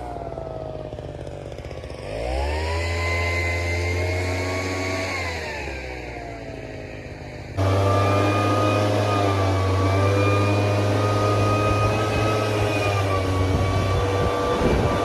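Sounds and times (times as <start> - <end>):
engine humming with whine: 0.0 - 15.0.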